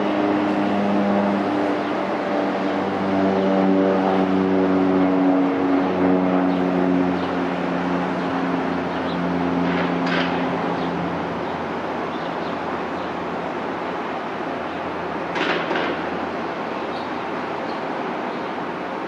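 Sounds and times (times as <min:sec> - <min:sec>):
turboprop engine drone: 0:00.0 - 0:19.0.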